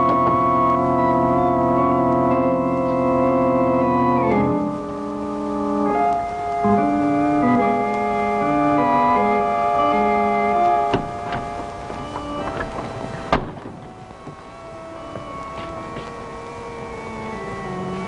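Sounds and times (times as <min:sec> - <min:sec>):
organ music: 0:00.0 - 0:18.0.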